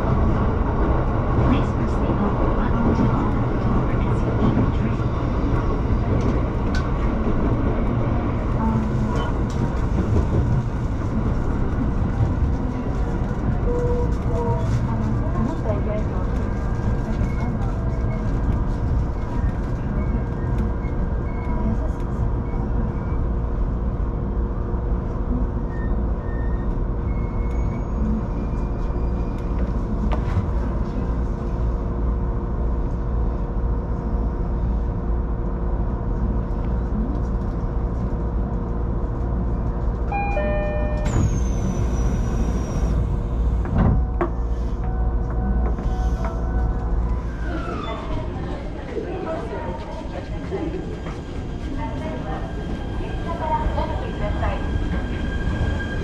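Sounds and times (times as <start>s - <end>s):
train hum and rumble: 0.0s - 56.0s.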